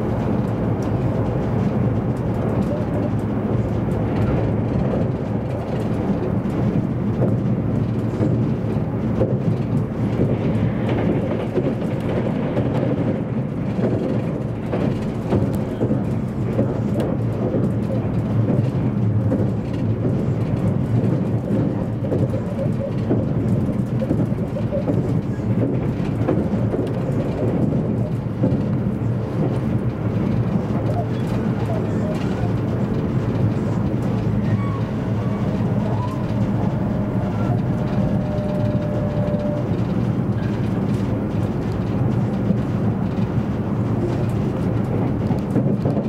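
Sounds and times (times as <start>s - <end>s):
train cabin low rumble: 0.0s - 46.0s.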